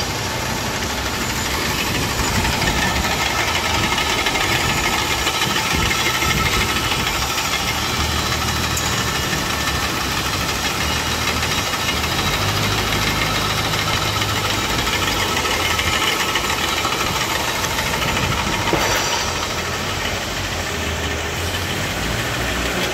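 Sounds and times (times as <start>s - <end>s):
winding machines whirring: 0.0s - 22.9s.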